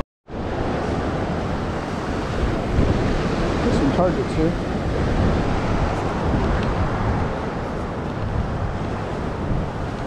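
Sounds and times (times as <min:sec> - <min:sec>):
surf washing: 0:00.3 - 0:10.0
wind rushing over microphone: 0:00.3 - 0:10.0.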